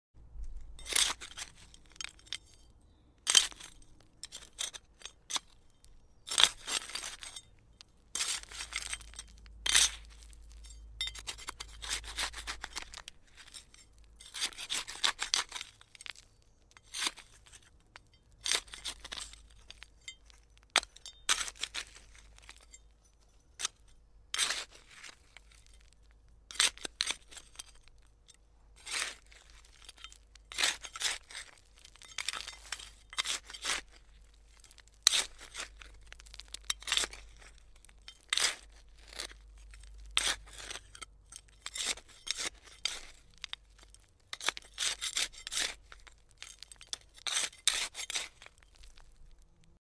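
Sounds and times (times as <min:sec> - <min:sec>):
digging tool scraping stony soil: 0:00.4 - 0:07.5, 0:08.1 - 0:28.1, 0:28.7 - 0:49.5.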